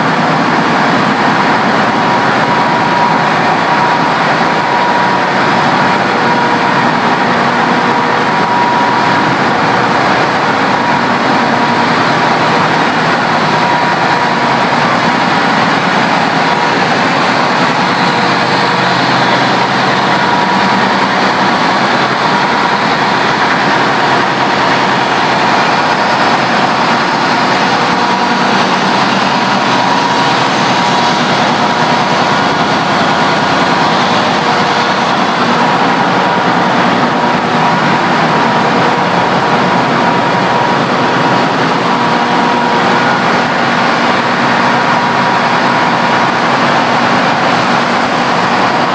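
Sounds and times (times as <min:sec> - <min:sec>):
engine-generator sets running: 0:00.0 - 0:48.9.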